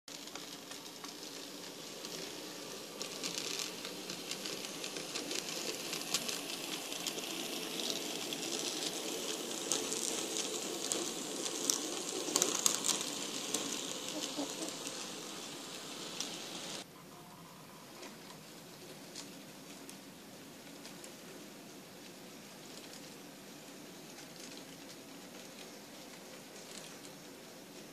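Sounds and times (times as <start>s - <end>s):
model train wheels clicking: 0.1s - 16.9s, 17.9s - 27.9s.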